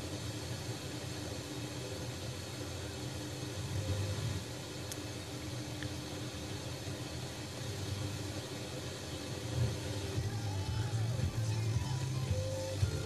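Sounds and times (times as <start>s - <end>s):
low hum: 0.0s - 13.0s
radio static hiss: 0.0s - 13.0s.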